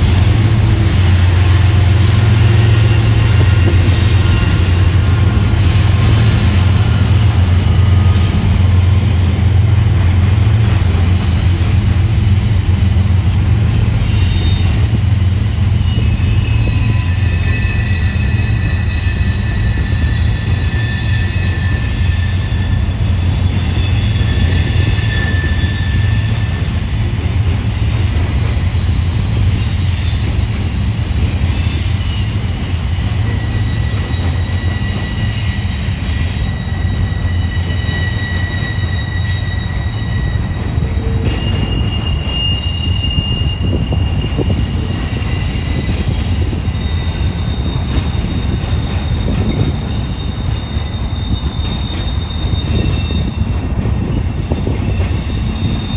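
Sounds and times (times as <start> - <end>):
wheel squeal: 0.0 - 9.6, 10.2 - 55.9
freight train rumble: 0.0 - 55.9.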